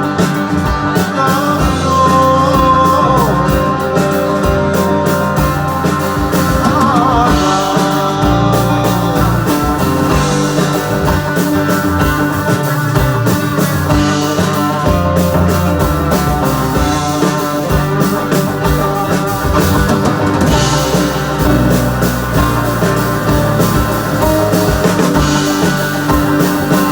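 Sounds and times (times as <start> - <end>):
drum kit beat: 0.0 - 26.9
live rock band playing: 0.0 - 26.9.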